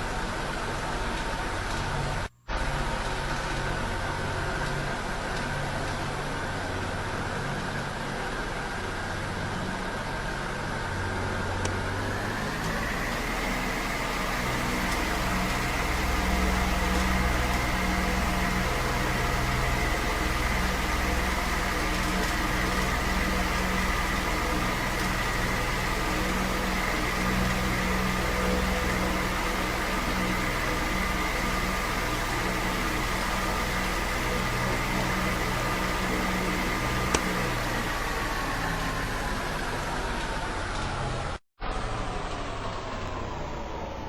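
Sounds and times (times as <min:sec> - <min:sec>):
wall fan humming: 0:00.0 - 0:40.3.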